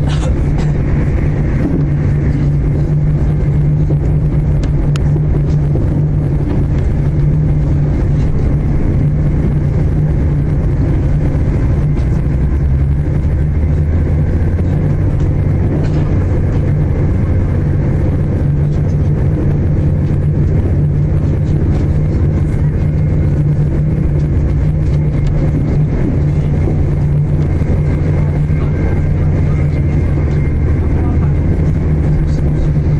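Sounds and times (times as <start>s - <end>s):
diesel engine drone: 0.0s - 32.9s
train wheels rumbling on track: 0.0s - 32.9s.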